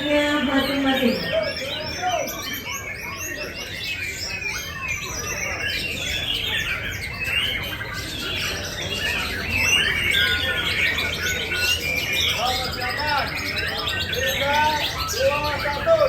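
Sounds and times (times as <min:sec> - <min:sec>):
many songbirds chirping: 0:00.0 - 0:16.0.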